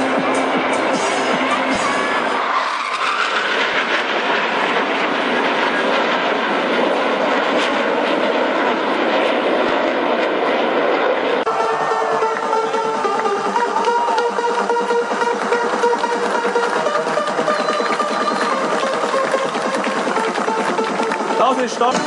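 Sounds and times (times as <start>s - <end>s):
jet fighters flying overhead: 0.0s - 22.0s.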